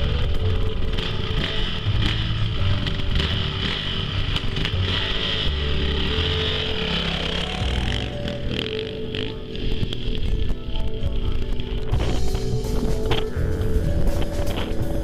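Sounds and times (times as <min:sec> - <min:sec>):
background music: 0:00.0 - 0:15.0
motocross bike engines revving: 0:00.0 - 0:15.0.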